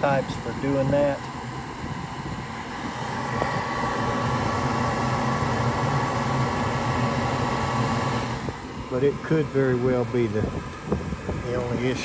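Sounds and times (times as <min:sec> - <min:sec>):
blower motor running: 0:00.0 - 0:12.0.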